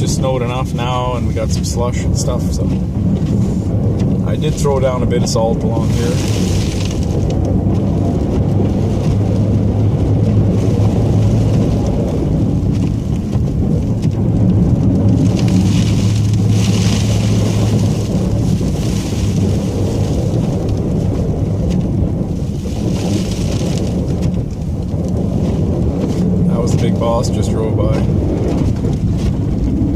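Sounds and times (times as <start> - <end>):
truck engine drone: 0.0 - 29.9.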